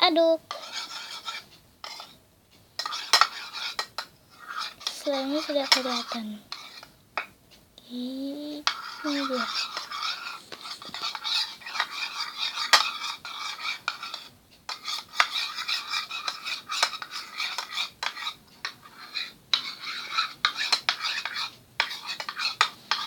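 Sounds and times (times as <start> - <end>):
spoon stirring in a bowl: 0.5 - 7.4, 8.3 - 23.0.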